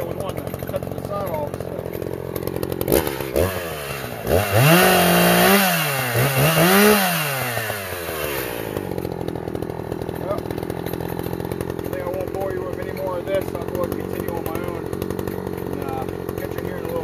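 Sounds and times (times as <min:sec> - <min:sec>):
chainsaw idling and revving: 0:00.0 - 0:17.0.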